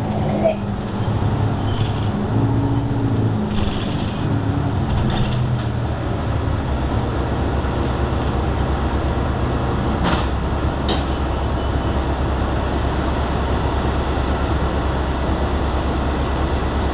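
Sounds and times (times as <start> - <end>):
bus drivetrain running: 0.0 - 16.9.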